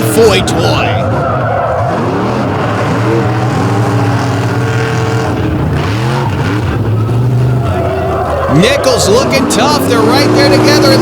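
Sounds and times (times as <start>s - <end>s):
monster truck engines racing: 0.0s - 11.0s.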